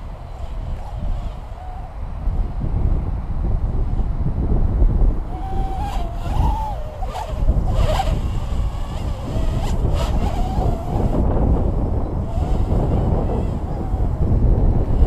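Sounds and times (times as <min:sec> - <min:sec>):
drone propellers whining: 0:00.0 - 0:02.7, 0:05.0 - 0:15.0
wind rumble on microphone: 0:00.0 - 0:15.0.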